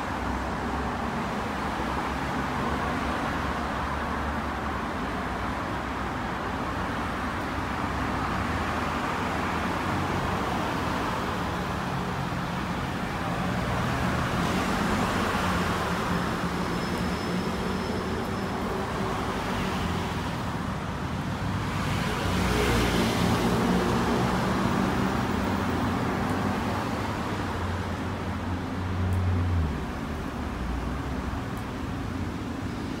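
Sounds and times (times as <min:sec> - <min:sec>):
road traffic engine hum: 0:00.0 - 0:33.0.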